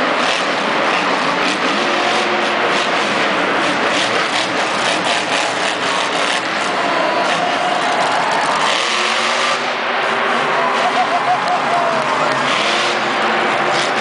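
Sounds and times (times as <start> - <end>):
loud truck engine roaring: 0.0 - 14.0.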